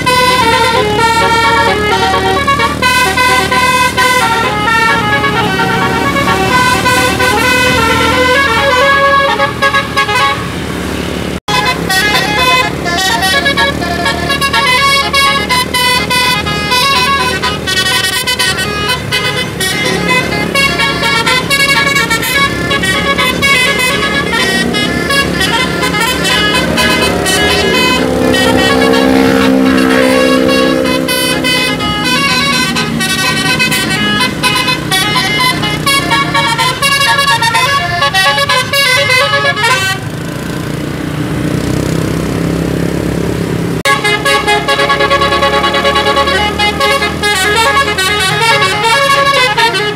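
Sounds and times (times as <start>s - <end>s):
deep horn chord: 0.0s - 10.3s, 11.5s - 40.0s, 43.8s - 49.9s
bus musical horn tooting: 0.0s - 40.6s, 43.8s - 49.9s
engine and road noise: 0.0s - 49.9s.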